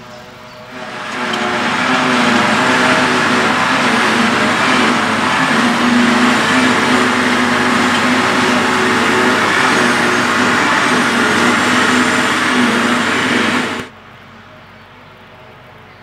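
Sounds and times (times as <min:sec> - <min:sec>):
forage harvester engine under load: 0:00.6 - 0:13.9
tractor engine: 0:00.6 - 0:14.0
whirr of cutterhead and blower: 0:00.7 - 0:13.9.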